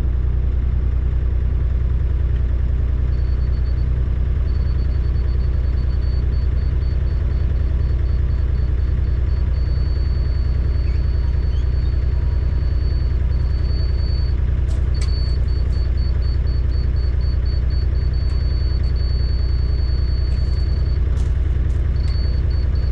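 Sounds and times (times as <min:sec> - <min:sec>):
construction machine engine idling: 0:00.0 - 0:22.9.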